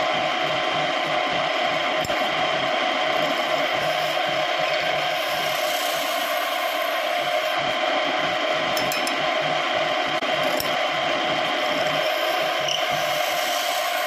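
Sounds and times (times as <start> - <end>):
wood lathe motor hum: 0.0 - 14.0.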